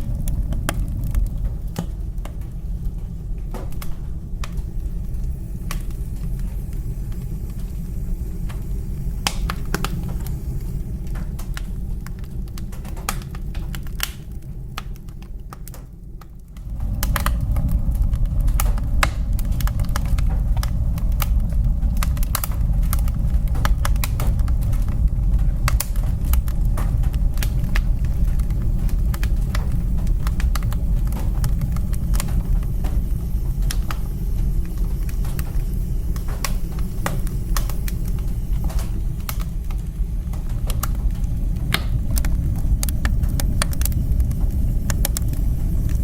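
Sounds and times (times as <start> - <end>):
low rumble of flames: 0.0 - 46.0
wood fire pops and crackles: 0.0 - 46.0.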